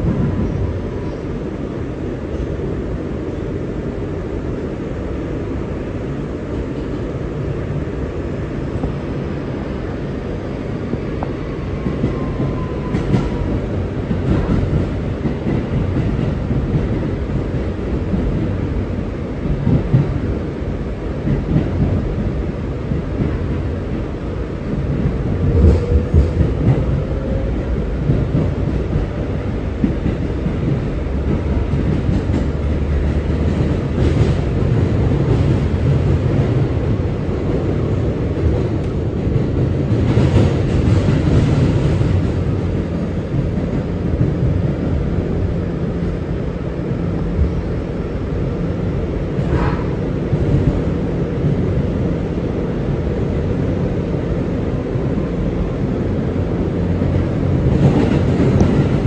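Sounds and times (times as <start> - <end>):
subway car rumble: 0.0 - 59.0.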